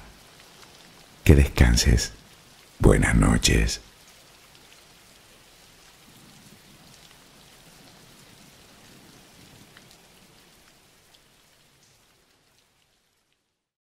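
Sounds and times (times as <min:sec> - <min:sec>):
raindrop ticks: 0:00.0 - 0:08.1, 0:09.4 - 0:13.5
faint steady rain: 0:00.0 - 0:13.8.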